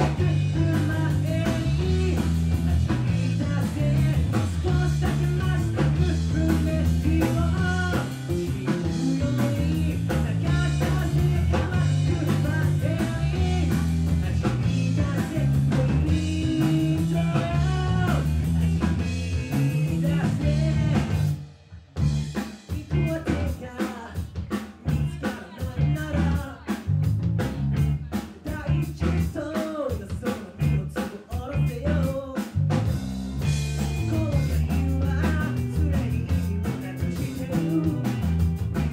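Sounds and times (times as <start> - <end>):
man singing: 0.0 - 21.4, 22.4 - 38.9
electric bass guitar: 0.0 - 23.6, 24.3 - 38.9
drum kit: 0.0 - 38.9.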